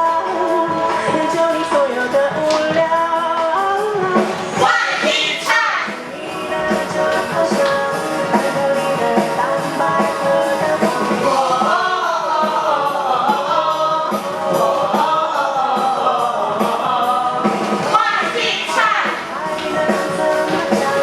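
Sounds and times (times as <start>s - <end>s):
instrumental accompaniment with beat: 0.0s - 21.0s
person singing pop song: 0.0s - 21.0s.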